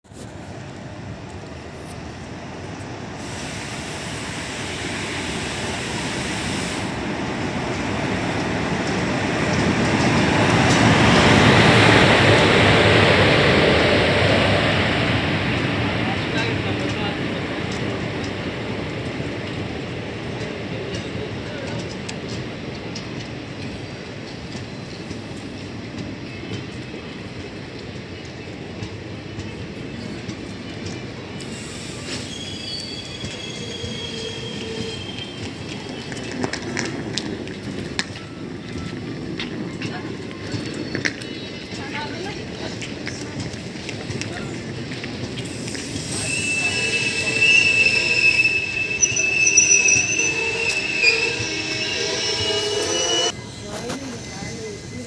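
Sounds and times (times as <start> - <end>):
train rumbling: 0.1 - 55.0.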